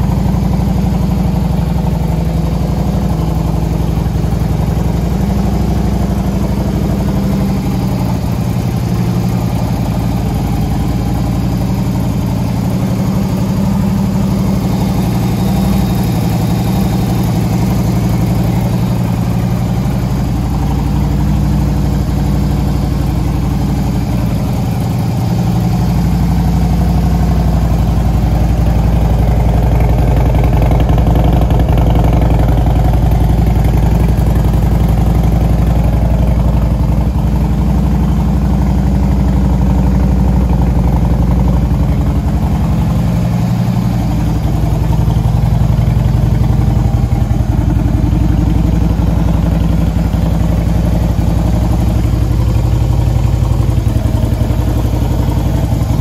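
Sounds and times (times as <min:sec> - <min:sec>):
motorcycle idling rumble: 0:00.0 - 0:56.0.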